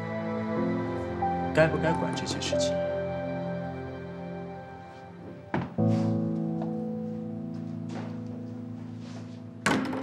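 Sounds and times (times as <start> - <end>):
background score music: 0.0 - 10.0.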